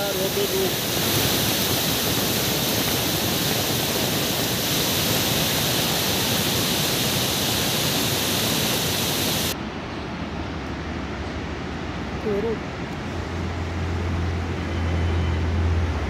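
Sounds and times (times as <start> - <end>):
floodwater torrent roaring: 0.0 - 16.0.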